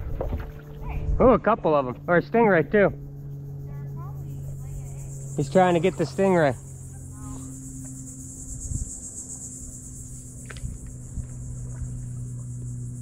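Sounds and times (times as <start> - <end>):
insects buzzing: 0.0 - 13.0
low steady hum: 0.0 - 13.0.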